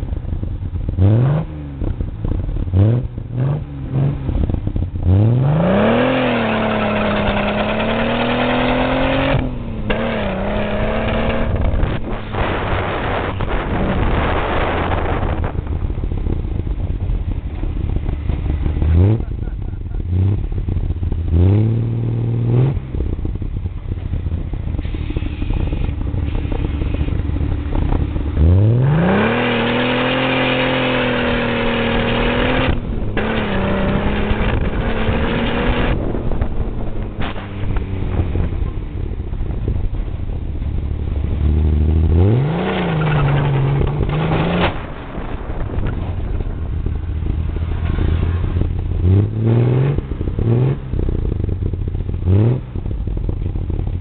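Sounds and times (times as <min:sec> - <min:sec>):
car engine and exhaust rumbling: 0:00.0 - 0:54.0.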